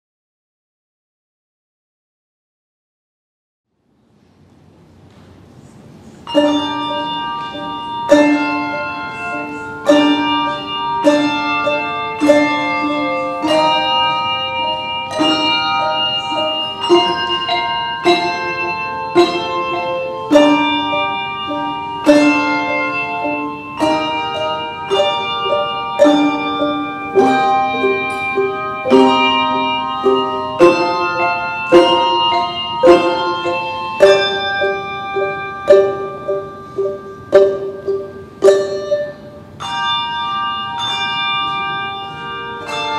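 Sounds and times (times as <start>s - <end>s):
handbell choir ringing chords: 6.2s - 42.9s.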